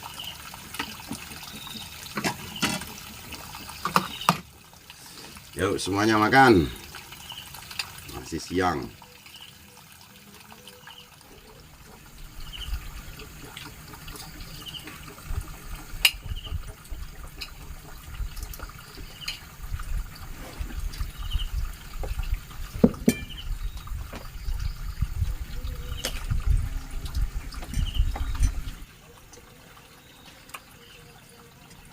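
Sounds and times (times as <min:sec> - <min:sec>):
rainwater trickling and dripping: 0:00.0 - 0:31.9.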